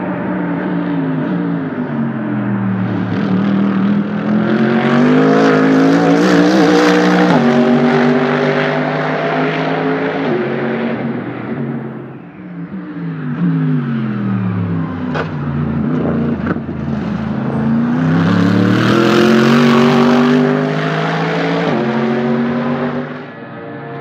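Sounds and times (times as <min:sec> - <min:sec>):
race car engine: 0:00.0 - 0:24.0.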